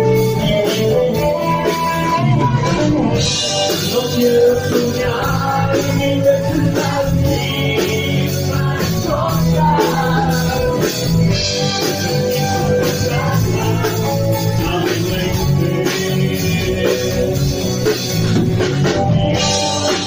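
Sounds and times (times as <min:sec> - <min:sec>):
drums: 0:00.0 - 0:20.0
electric guitars: 0:00.0 - 0:20.0
man singing: 0:00.0 - 0:20.0.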